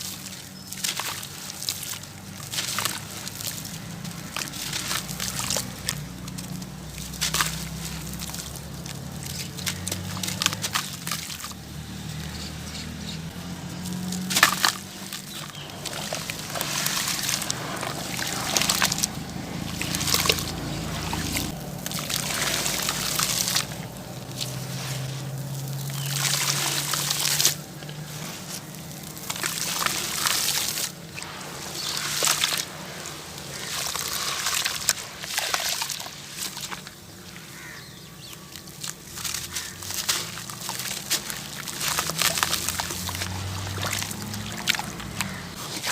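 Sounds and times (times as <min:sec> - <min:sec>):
wet crunching and sloshing: 0:00.0 - 0:45.9.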